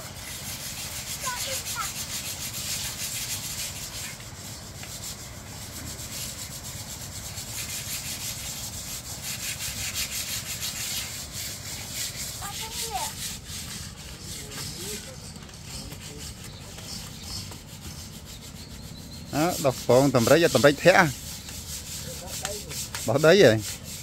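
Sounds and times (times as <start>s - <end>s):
scrubbing paint off concrete: 0.1s - 24.0s.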